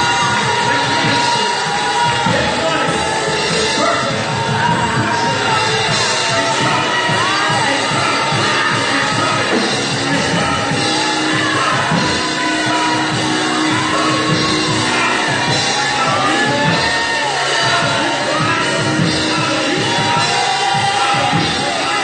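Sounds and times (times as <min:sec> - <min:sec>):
congregation voices: 0:00.0 - 0:22.0
gospel singing over instruments: 0:00.0 - 0:22.0.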